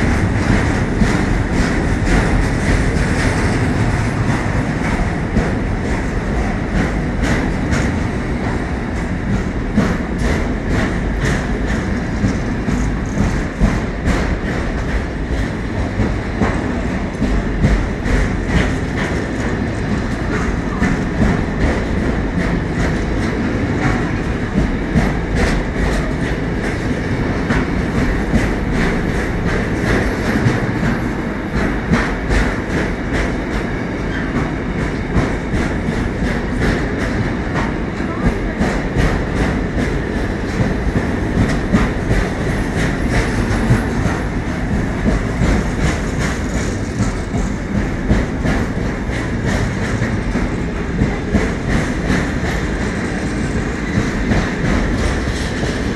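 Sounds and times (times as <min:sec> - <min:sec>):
train wheels rumbling: 0:00.0 - 0:55.9
wheels clacking over rail joints: 0:00.0 - 0:55.9.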